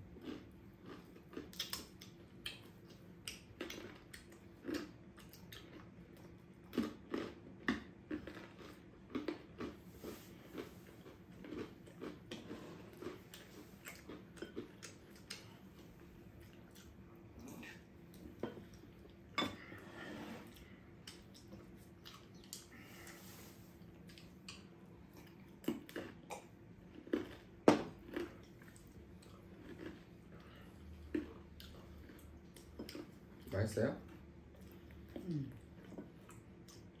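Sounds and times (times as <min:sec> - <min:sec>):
chewing and biting food: 0:00.0 - 0:19.3, 0:20.4 - 0:23.2, 0:23.8 - 0:37.0.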